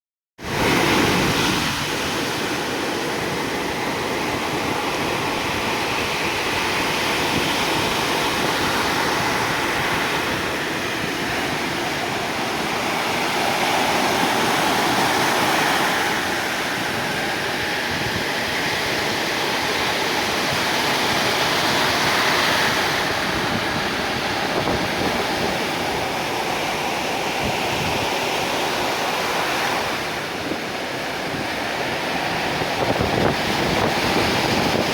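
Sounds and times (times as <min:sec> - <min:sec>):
ocean waves breaking on shore: 0:00.4 - 0:34.9.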